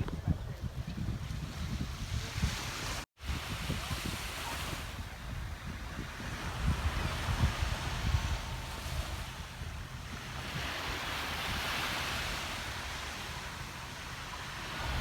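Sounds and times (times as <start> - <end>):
wind buffeting microphone: 0.0 - 15.0
sea waves washing: 1.5 - 15.0.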